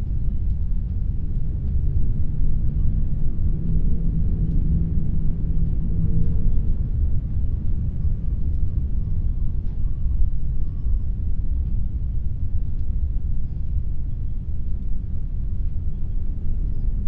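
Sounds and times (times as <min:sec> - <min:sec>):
heavy wind blowing: 0:00.0 - 0:17.0.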